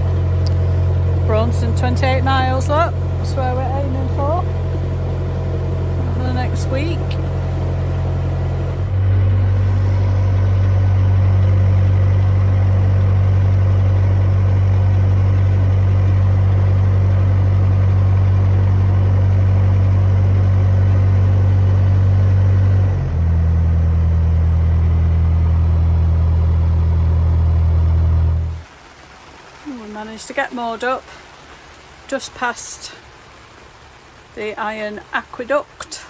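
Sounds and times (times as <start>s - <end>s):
diesel engine low drone: 0.0s - 36.0s.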